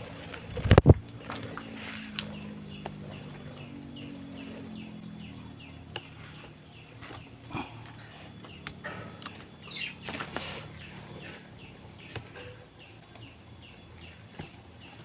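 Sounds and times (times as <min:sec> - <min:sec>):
budgerigars chirping: 0:01.7 - 0:07.4, 0:08.4 - 0:15.0.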